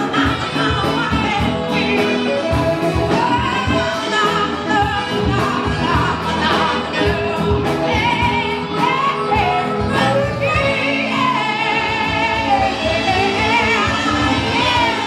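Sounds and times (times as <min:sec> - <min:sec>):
drums: 0:00.0 - 0:15.0
electric guitar: 0:00.0 - 0:15.0
person singing: 0:00.0 - 0:15.0.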